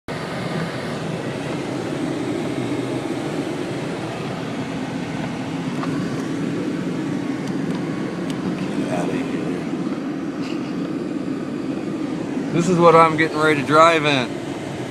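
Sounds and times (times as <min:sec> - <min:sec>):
car engine rumbling: 0:00.1 - 0:14.9.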